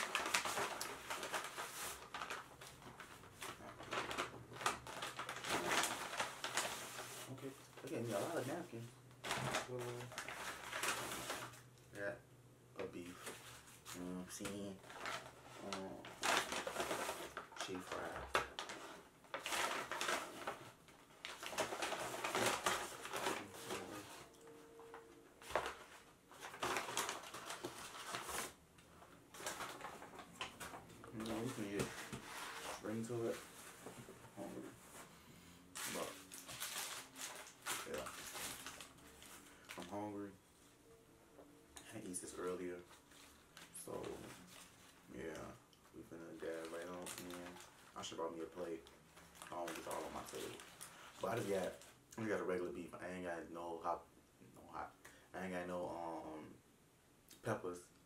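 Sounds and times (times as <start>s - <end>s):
paper bag crinkling and rustling: 0.0s - 11.7s, 13.0s - 35.1s, 35.8s - 40.2s, 42.0s - 52.6s.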